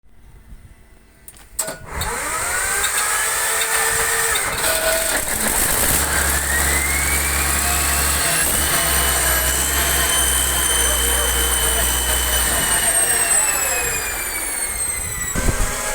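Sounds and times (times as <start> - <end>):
engine starting and revving: 1.7 - 15.9.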